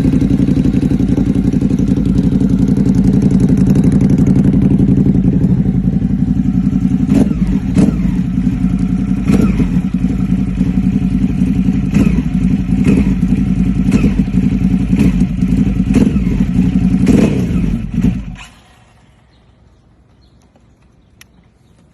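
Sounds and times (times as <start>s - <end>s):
motorcycle engine running loudly: 0.0s - 19.0s.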